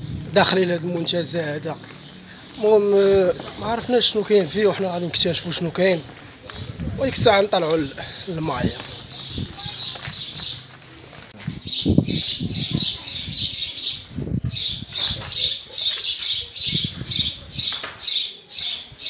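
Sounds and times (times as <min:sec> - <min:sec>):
bird squawky chirping: 0:01.4 - 0:05.7, 0:06.4 - 0:10.7, 0:11.6 - 0:19.0.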